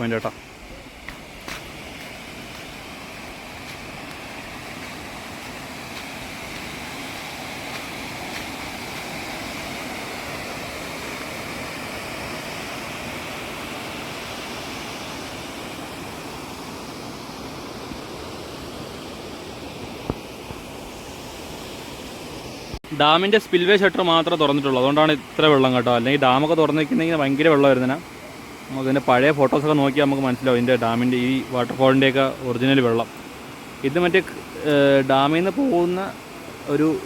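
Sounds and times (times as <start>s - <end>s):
waterfall rushing: 0.0s - 17.0s, 23.2s - 37.0s.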